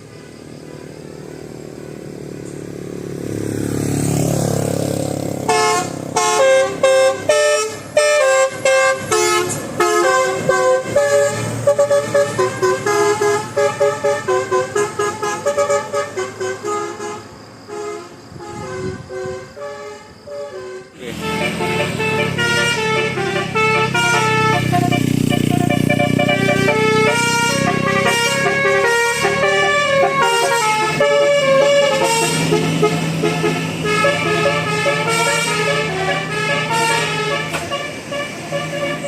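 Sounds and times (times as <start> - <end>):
vehicle approaching: 0.0 - 39.0
multi-tone musical horn melody: 5.4 - 39.0.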